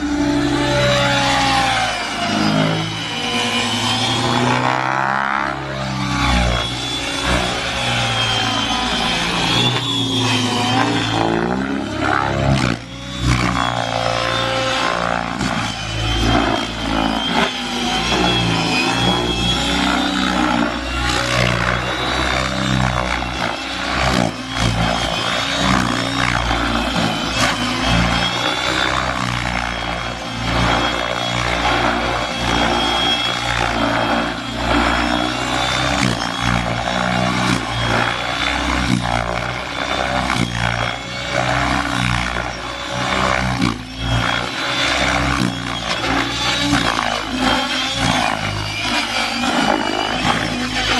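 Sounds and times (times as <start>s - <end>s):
rc helicopter motor whine: 0.0s - 50.9s
rotor blades swishing: 0.0s - 50.9s.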